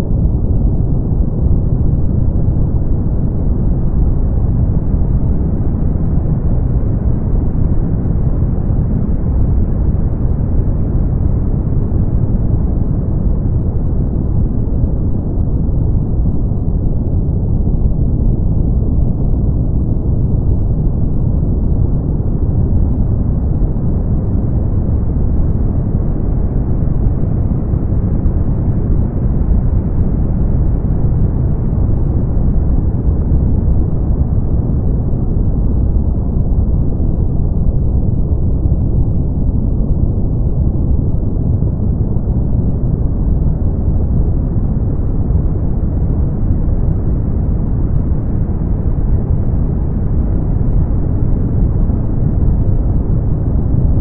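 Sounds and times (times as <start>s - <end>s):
deep rushing brown noise: 0.0s - 54.0s.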